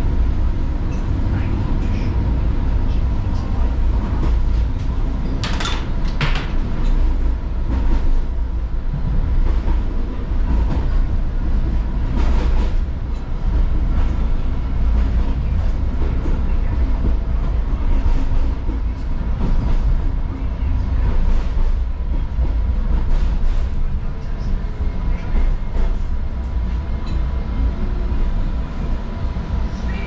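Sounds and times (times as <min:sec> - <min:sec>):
wheels rumbling on rails: 0:00.0 - 0:30.0.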